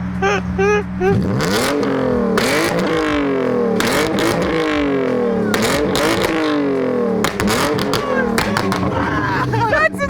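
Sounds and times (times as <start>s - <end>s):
car engine revving: 0.0s - 10.0s
exhaust pops and crackles: 1.1s - 10.0s.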